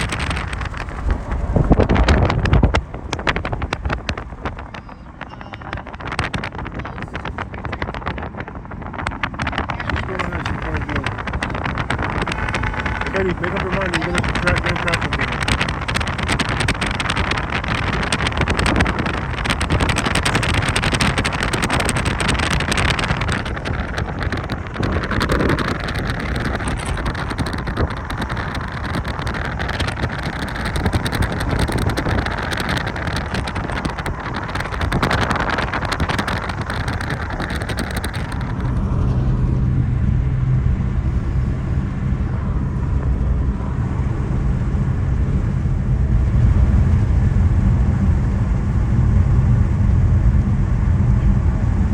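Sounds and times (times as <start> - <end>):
road and wind noise: 0.0 - 51.9
steady low hum: 0.0 - 51.9.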